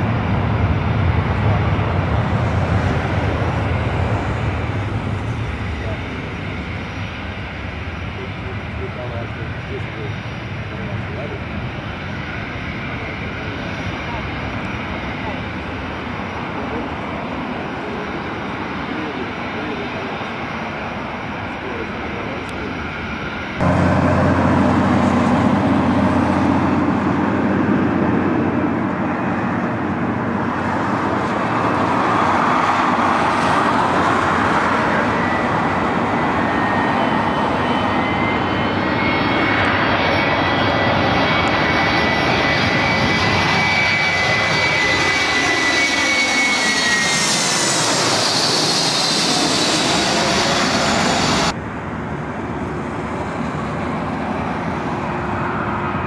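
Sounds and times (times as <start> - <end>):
jet airliner engines passing: 0.0 - 56.0.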